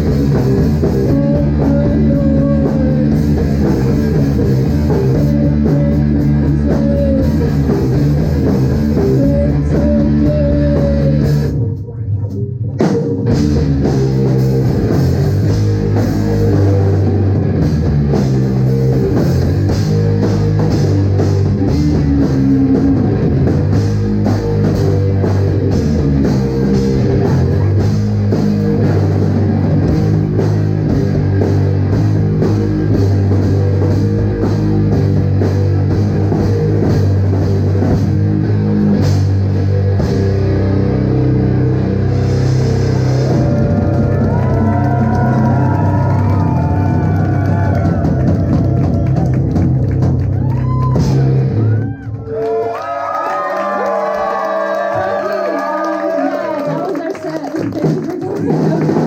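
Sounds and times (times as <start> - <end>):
live rock band playing: 0.0 - 11.8, 12.6 - 52.2.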